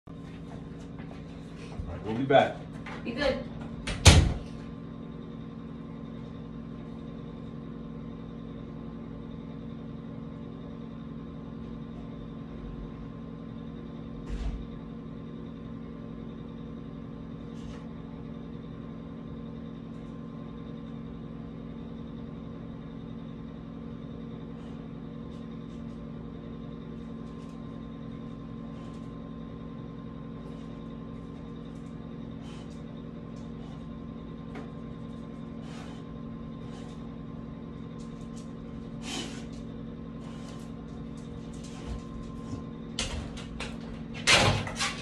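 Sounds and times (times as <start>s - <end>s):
low mechanical hum: 0.0s - 45.0s.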